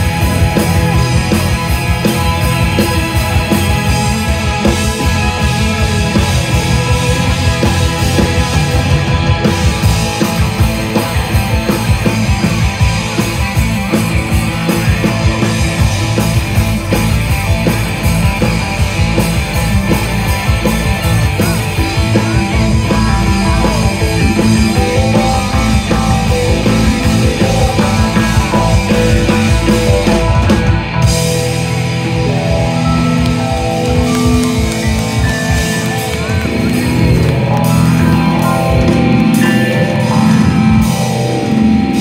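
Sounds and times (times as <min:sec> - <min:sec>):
bass guitar: 0:00.0 - 0:42.0
drum kit: 0:00.0 - 0:42.0
electric guitar: 0:00.0 - 0:42.0
keyboards: 0:00.0 - 0:42.0.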